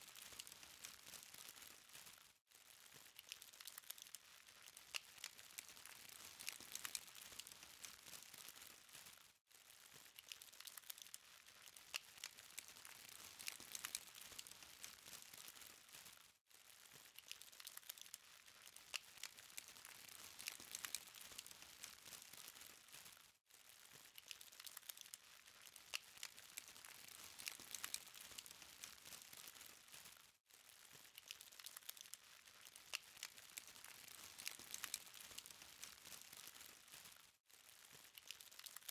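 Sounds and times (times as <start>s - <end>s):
charcoal fire crackling: 0.0s - 23.2s, 23.8s - 38.9s.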